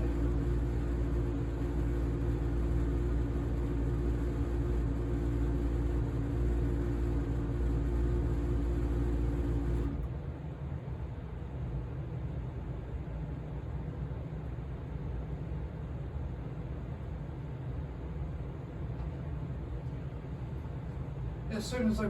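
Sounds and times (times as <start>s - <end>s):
gas furnace droning rumble: 0.0s - 22.0s
steady hum: 0.0s - 22.0s.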